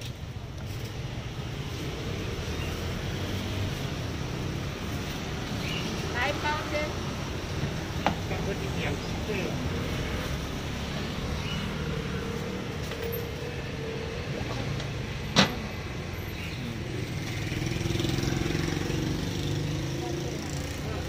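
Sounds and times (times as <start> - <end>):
street traffic of scooters and cars: 0.0 - 21.0.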